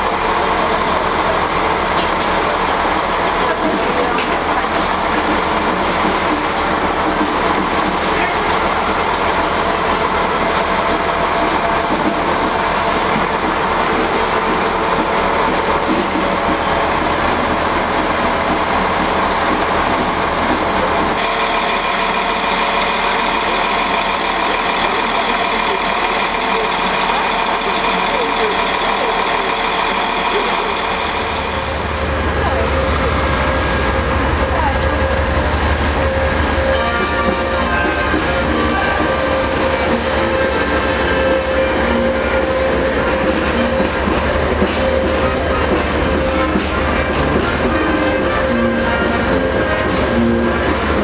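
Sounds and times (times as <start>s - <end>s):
diesel rail bus idling: 0.0s - 51.0s.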